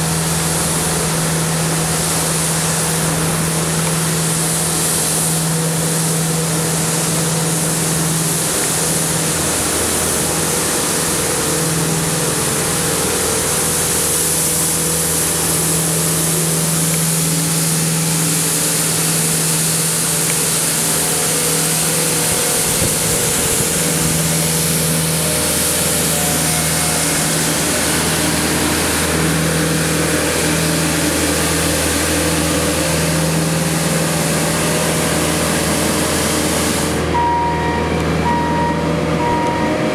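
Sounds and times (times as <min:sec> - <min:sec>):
steady high hiss: 0:00.0 - 0:39.9
street sweeper engine humming: 0:00.0 - 0:39.9.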